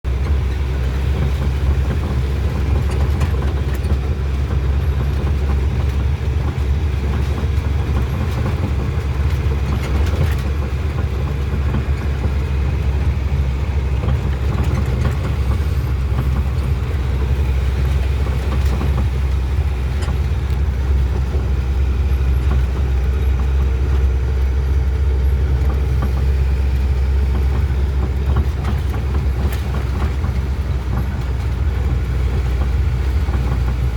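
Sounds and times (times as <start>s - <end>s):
road noise: 0.0s - 33.9s
truck engine rumble: 0.0s - 33.9s.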